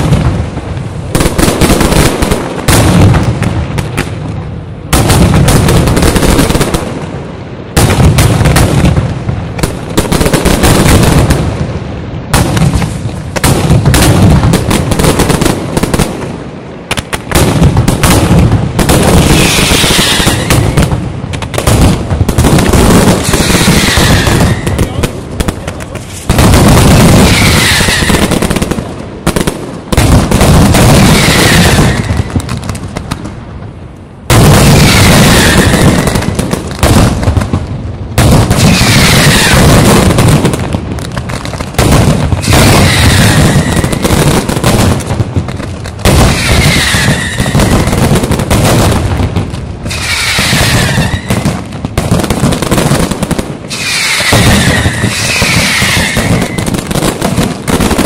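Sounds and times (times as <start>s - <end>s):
firecrackers barrage of bangs: 0.0s - 58.0s.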